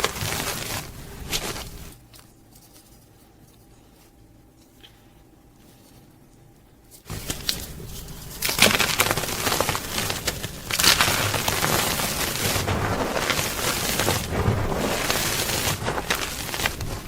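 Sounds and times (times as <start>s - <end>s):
chalk crunching and crackling: 0.0s - 17.0s.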